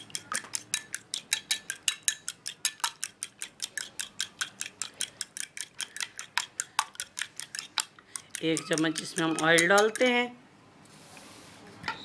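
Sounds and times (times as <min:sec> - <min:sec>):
utensil clinking in glass bowl: 0:00.0 - 0:10.2.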